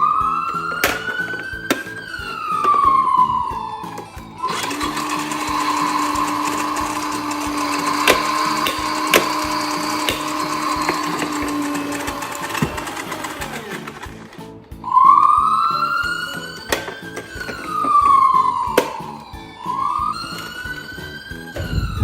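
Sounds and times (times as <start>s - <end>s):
background music with beat: 0.0s - 22.0s
toy ambulance siren wailing: 0.0s - 22.0s.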